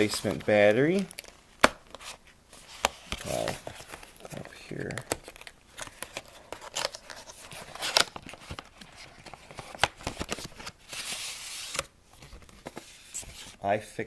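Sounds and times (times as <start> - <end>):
packaging rustling: 0.0 - 13.6.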